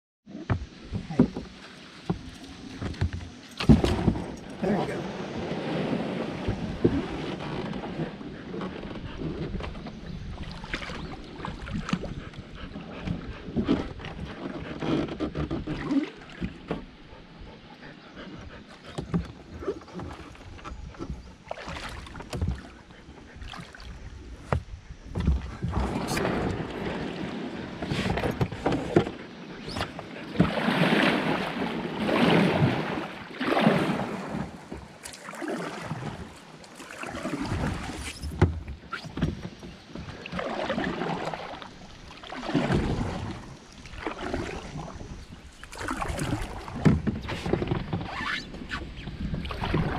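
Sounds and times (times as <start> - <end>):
paddle swishing water: 0.3 - 49.9.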